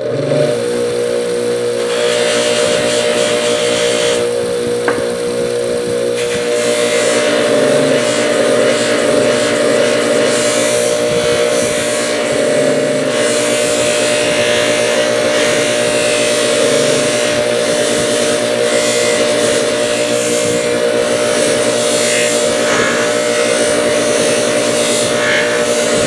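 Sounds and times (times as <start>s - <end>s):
polishing wheel motor hum: 0.0s - 26.0s.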